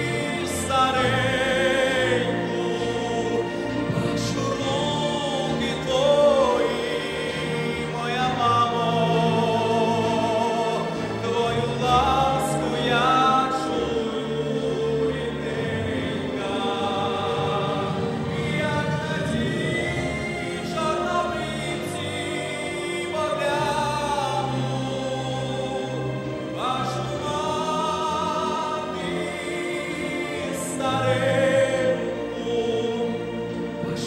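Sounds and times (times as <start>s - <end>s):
man singing with vibrato: 0.0s - 34.0s
musical accompaniment: 0.0s - 34.0s.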